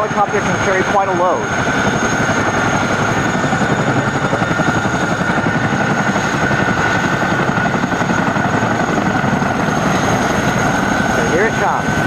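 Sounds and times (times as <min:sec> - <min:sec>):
helicopter rotor chop: 0:00.0 - 0:12.0
turbine whine: 0:00.0 - 0:12.0.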